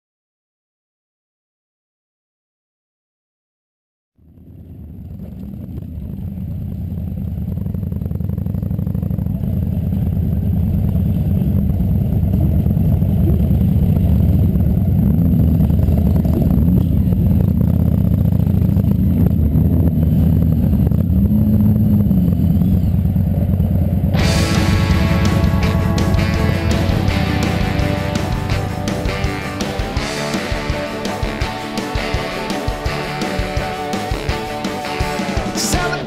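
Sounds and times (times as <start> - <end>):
motorcycle engines rumbling: 4.2 - 36.0.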